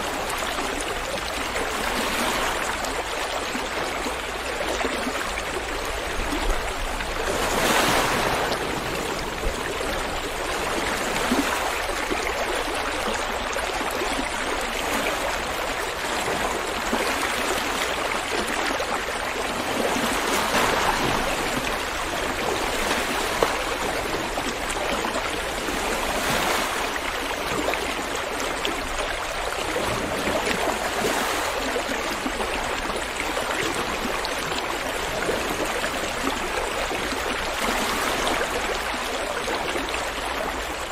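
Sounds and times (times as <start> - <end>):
ocean waves washing in: 4.6 - 40.9.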